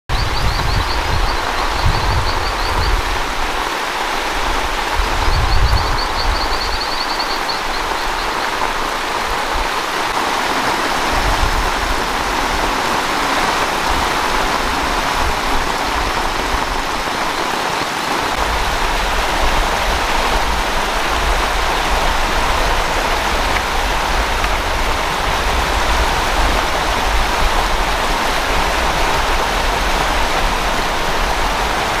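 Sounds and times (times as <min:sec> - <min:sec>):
rain with running water: 0:00.1 - 0:32.0.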